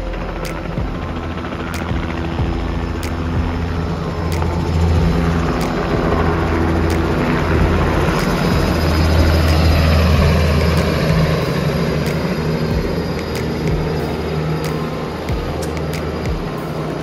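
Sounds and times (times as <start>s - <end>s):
helicopter flying low: 0.0s - 17.0s.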